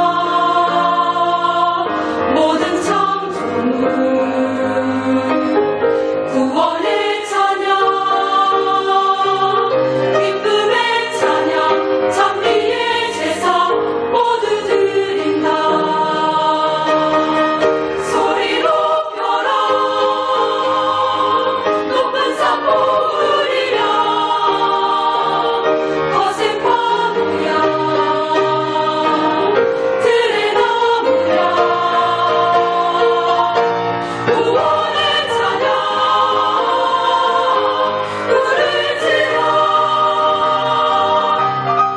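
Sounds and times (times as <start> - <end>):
choir singing a hymn: 0.0 - 41.9.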